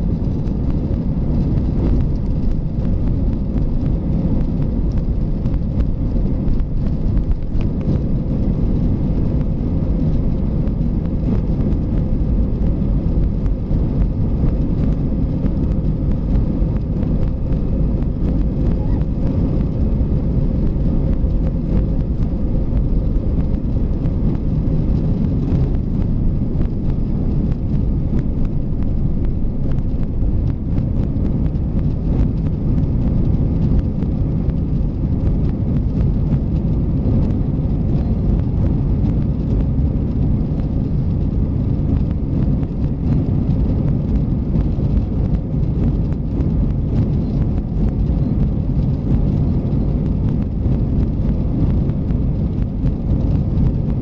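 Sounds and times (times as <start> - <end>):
jet engines at takeoff thrust: 0.0 - 54.0.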